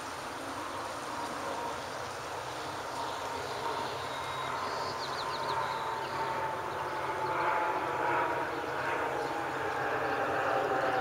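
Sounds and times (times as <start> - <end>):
boat engines and pumps droning: 0.0 - 11.0.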